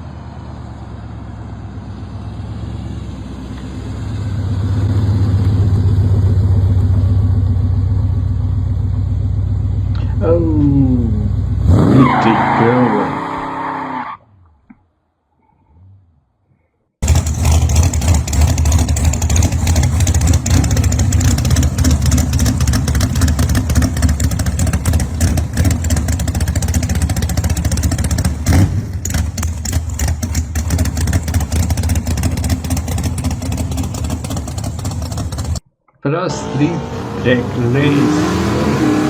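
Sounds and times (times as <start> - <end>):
muscle car engine rumbling: 0.0 - 13.8, 17.0 - 39.0.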